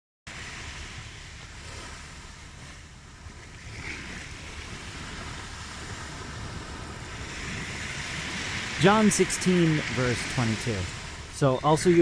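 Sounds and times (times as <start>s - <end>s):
ocean waves on shore: 0.3s - 12.0s.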